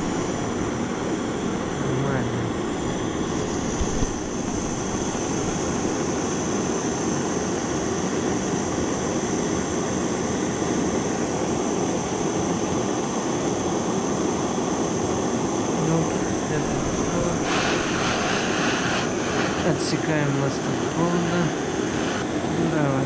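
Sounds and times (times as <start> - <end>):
gas torch roaring: 0.0 - 22.5.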